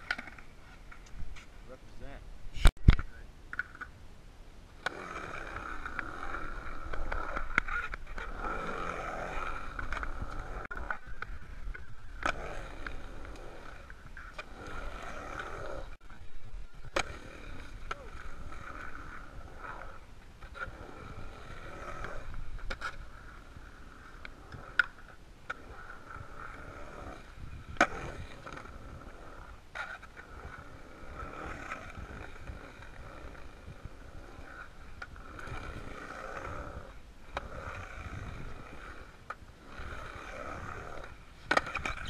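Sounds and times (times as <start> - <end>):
skateboard wheels rolling on concrete: 0.0 - 42.0
skateboard clacks: 4.8 - 42.0.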